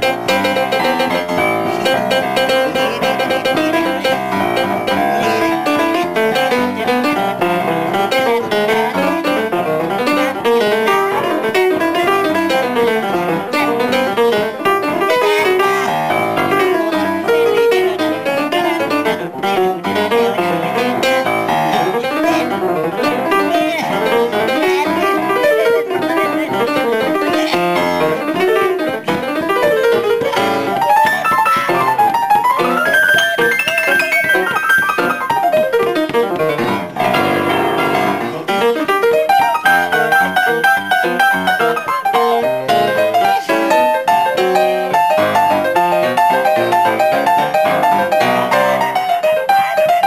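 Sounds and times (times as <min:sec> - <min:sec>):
upright piano playing: 0:00.0 - 0:50.0.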